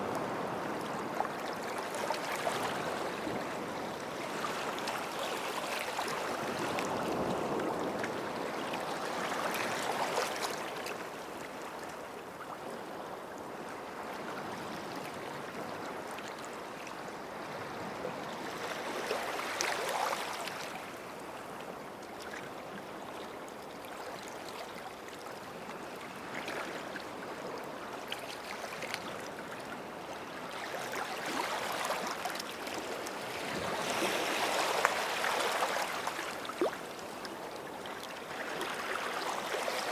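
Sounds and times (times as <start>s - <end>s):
small waves washing on shore: 0.0s - 39.9s.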